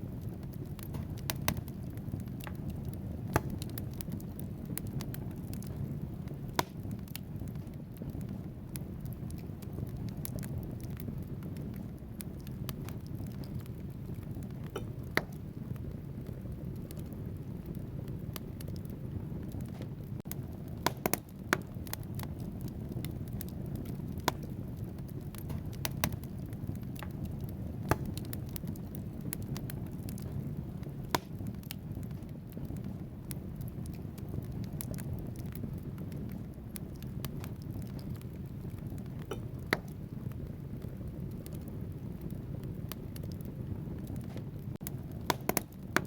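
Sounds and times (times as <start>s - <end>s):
fire rumbling: 0.0s - 46.0s
logs crackling and popping: 0.0s - 46.0s.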